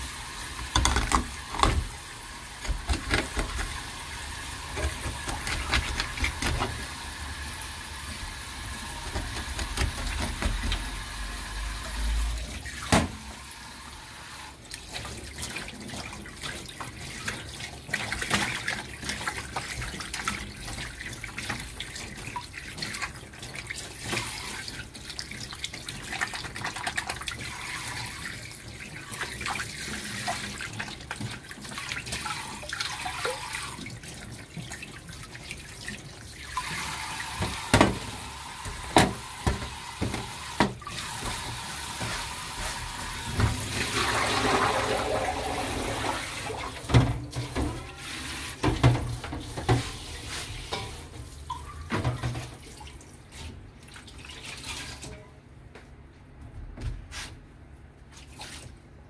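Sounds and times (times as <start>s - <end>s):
tap water running into sink: 0.0s - 53.4s.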